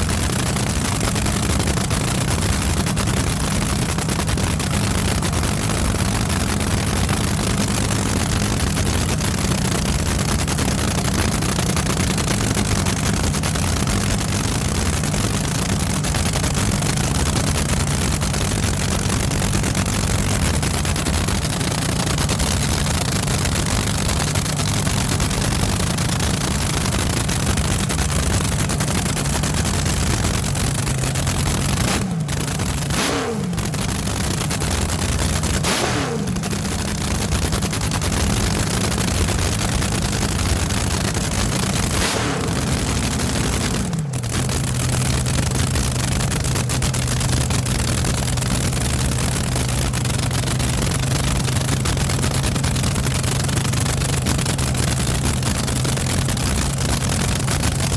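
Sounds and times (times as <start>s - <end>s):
engine running loudly: 0.0s - 57.9s.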